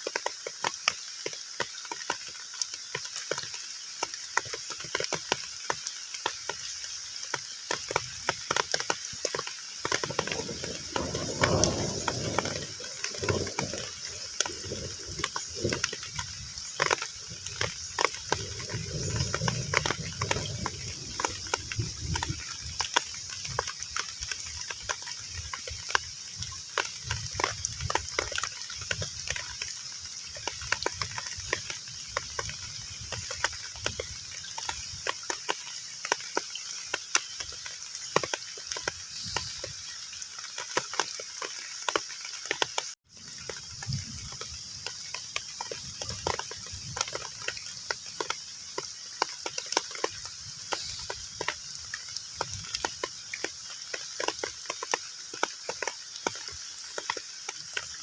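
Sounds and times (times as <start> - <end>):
heavy rain on a pond: 0.0 - 58.0.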